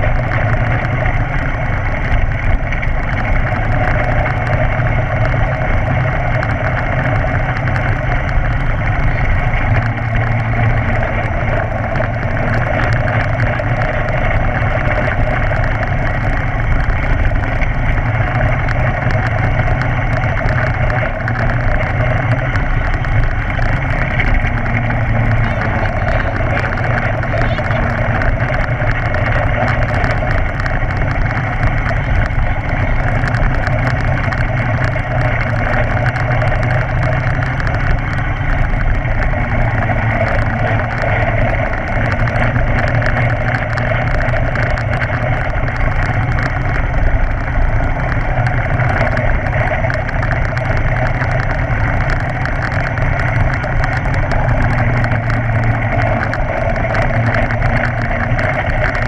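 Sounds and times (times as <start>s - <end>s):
go-kart engine running: 0.0s - 59.0s.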